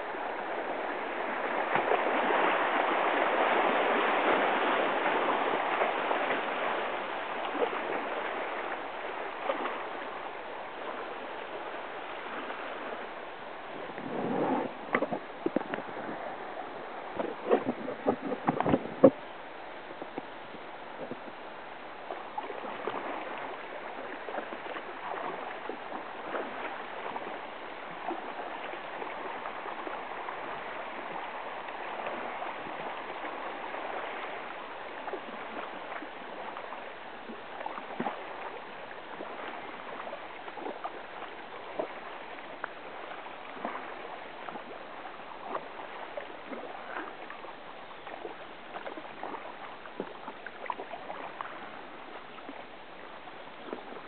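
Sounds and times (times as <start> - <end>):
river water splashing along kayak: 0.0 - 54.0.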